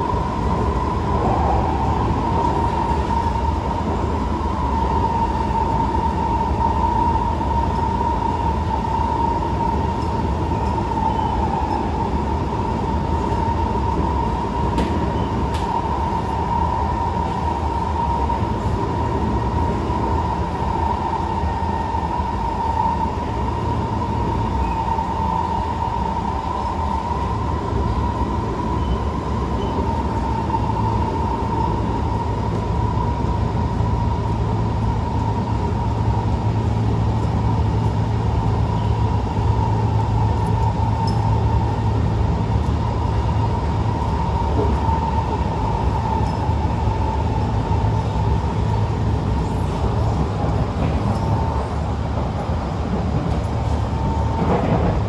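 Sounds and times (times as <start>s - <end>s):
constant high whine: 0.0s - 55.0s
train wheels rumbling on track: 0.0s - 55.0s.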